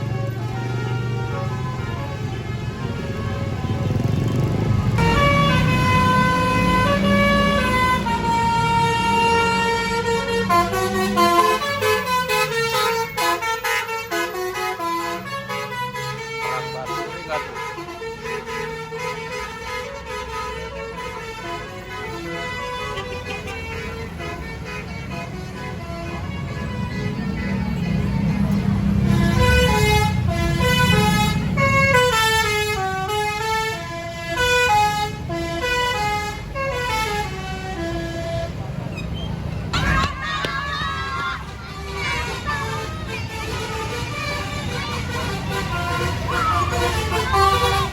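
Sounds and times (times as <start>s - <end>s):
bus engine running: 0.0s - 47.9s
multi-tone musical bus horn: 0.0s - 47.9s.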